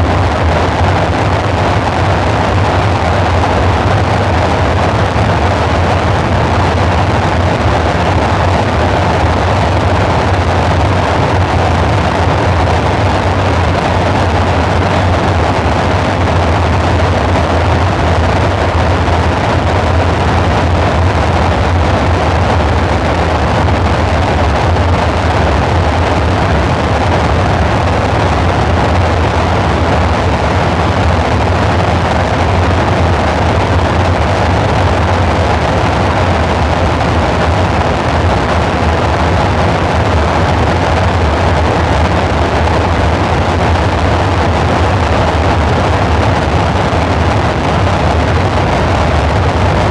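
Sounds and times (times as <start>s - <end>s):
noisy hiss: 0.0s - 49.9s.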